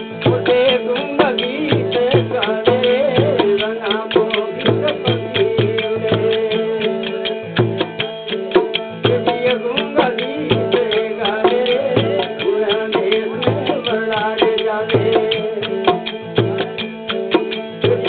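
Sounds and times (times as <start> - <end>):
hand drum rhythm: 0.0 - 18.0.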